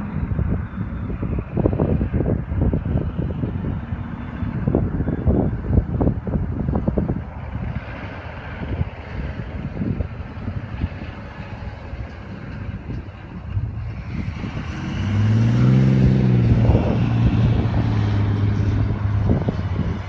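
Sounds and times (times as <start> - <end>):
vehicle engine drone: 0.0 - 20.0
wind buffeting microphone: 0.0 - 20.0.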